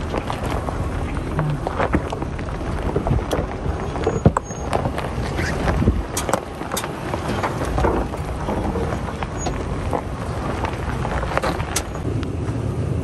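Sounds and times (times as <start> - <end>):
wind on microphone: 0.0 - 12.1
stones crunching under tyres: 0.0 - 12.7
truck engine rumble: 0.0 - 13.0.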